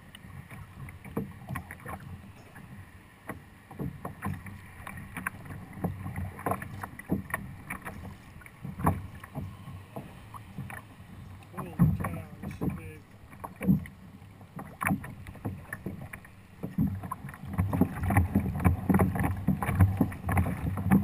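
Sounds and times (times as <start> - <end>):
water slapping against kayak hull: 0.0 - 21.0
wind rumble on microphone: 3.8 - 21.0.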